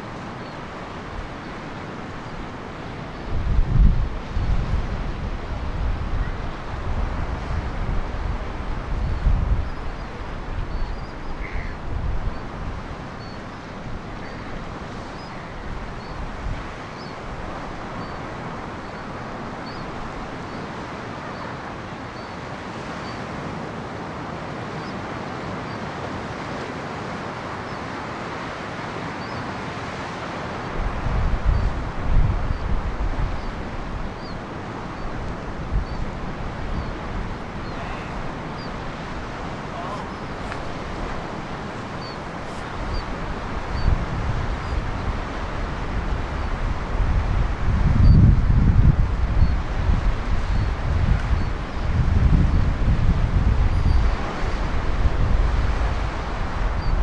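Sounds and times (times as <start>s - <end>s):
wind buffeting microphone: 0.0s - 22.2s, 30.5s - 57.0s
ocean waves breaking: 0.0s - 57.0s.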